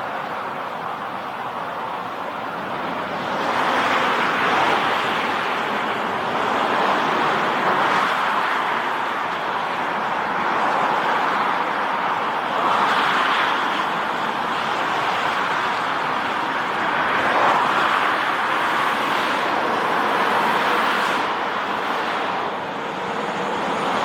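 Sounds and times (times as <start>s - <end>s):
turboprop aircraft roar: 0.0s - 24.0s.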